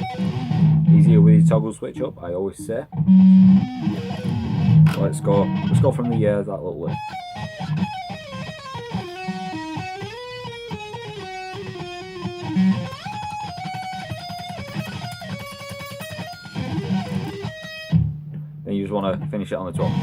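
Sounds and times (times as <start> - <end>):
electric guitar lead: 0.0 - 1.7, 2.6 - 20.0.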